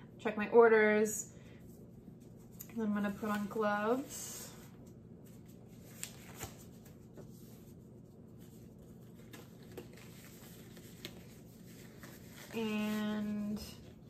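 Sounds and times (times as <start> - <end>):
rustle of thin gloves: 1.9 - 14.0.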